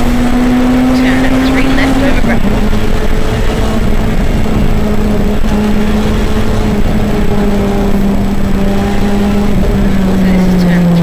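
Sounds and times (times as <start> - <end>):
rally car engine at high revs: 0.0 - 11.0
road and tyre noise: 0.0 - 11.0.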